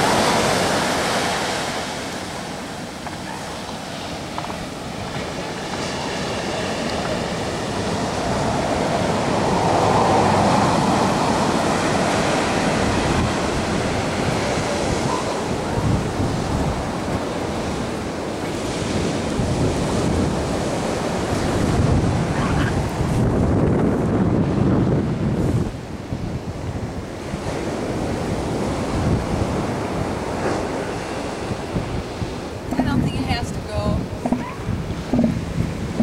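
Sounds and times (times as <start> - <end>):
ocean surf washing onto beach: 0.0 - 36.0
wind buffeting microphone: 0.0 - 36.0.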